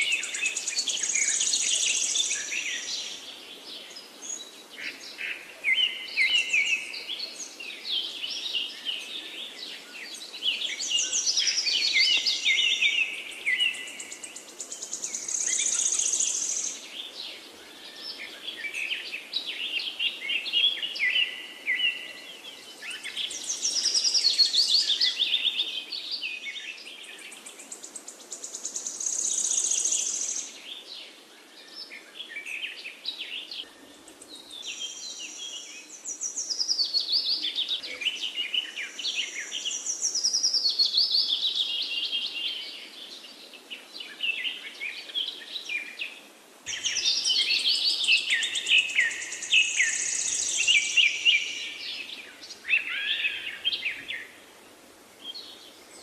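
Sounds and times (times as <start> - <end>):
birds chirping and singing: 0.0 - 54.4.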